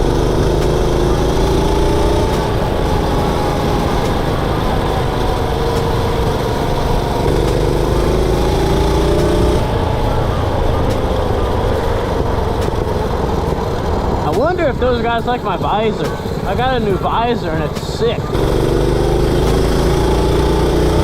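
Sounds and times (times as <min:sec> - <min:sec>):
mini bike engine running: 0:00.0 - 0:21.0.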